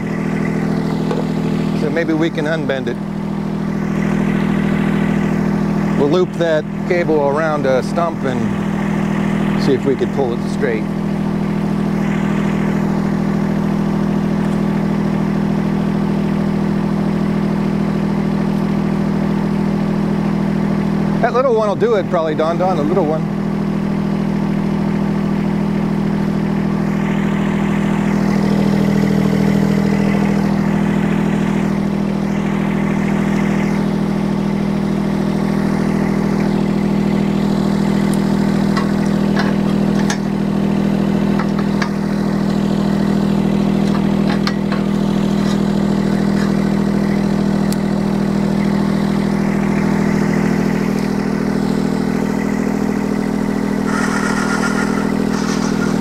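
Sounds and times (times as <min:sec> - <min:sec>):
mini excavator engine idling: 0:00.0 - 0:56.0.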